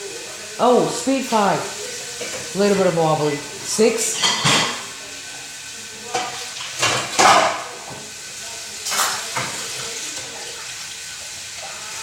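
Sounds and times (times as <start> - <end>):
ceiling fan hissing: 0.0 - 12.0.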